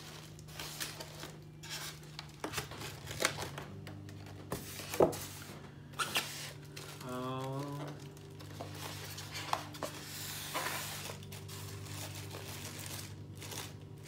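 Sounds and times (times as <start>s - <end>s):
plastic bag crinkling: 0.0s - 3.8s, 6.0s - 14.0s.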